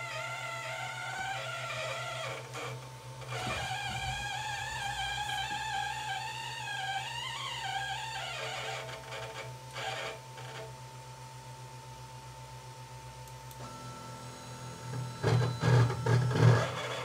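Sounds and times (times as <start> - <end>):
printer buzzing whine: 0.0 - 10.8, 13.5 - 17.0.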